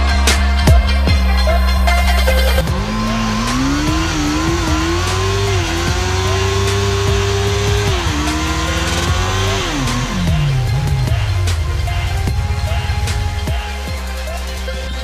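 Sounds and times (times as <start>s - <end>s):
motorcycle engine at high revs: 1.1s - 14.7s.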